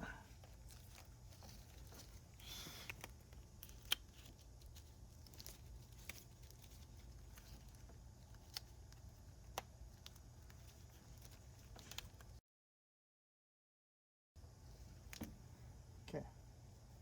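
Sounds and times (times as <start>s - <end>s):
low steady hum: 0.0s - 12.4s, 14.4s - 17.0s.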